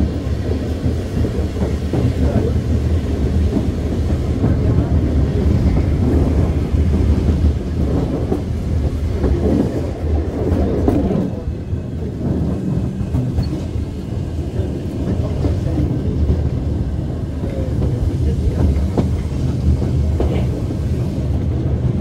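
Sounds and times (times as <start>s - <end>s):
tram rumbling on track: 0.0s - 22.0s.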